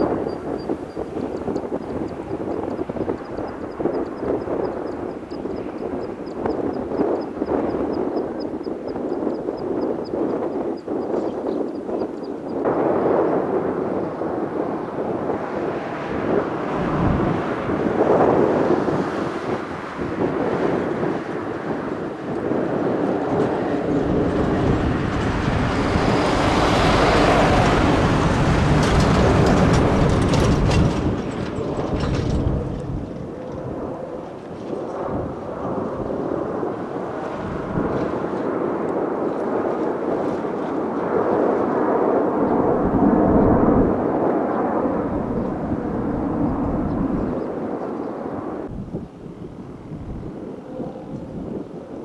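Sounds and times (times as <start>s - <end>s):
jet engines flying past: 0.0s - 52.0s.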